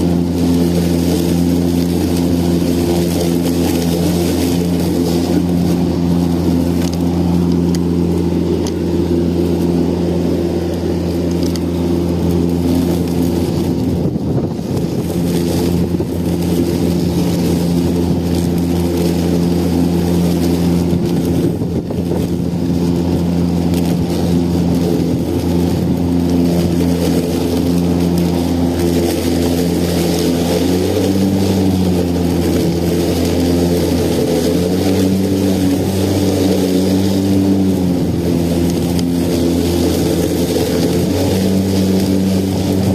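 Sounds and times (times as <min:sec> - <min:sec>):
lawn mower running: 0:00.0 - 0:42.9.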